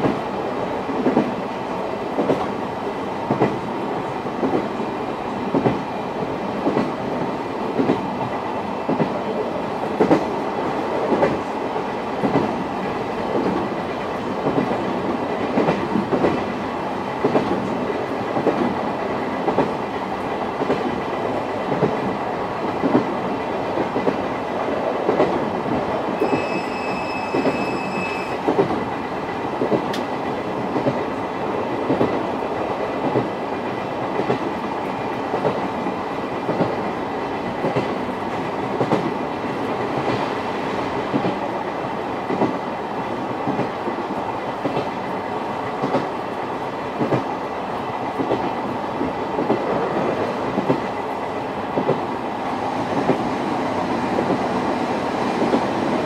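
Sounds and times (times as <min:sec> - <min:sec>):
train rumble: 0:00.0 - 0:56.0
train wheels clickety-clack: 0:00.0 - 0:56.0.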